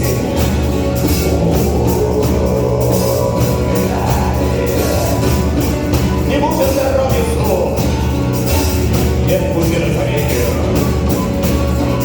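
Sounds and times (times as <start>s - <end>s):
live rock band playing: 0.0s - 12.0s
steady drum beat: 0.0s - 12.0s.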